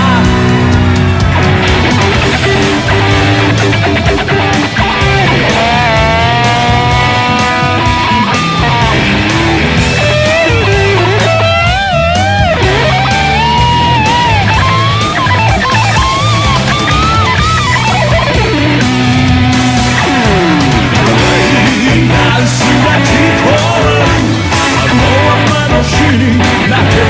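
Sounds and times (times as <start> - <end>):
bass line: 0.0 - 27.0
electric guitar lead melody: 0.0 - 27.0.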